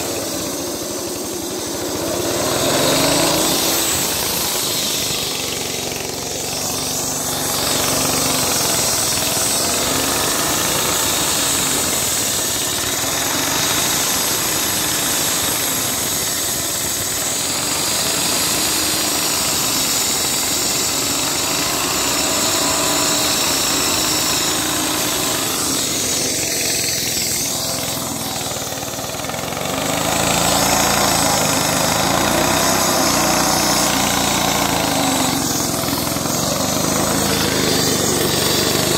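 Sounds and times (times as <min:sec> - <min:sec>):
concrete saw engine running: 0:00.0 - 0:38.9
saw blade grinding concrete: 0:00.0 - 0:38.9.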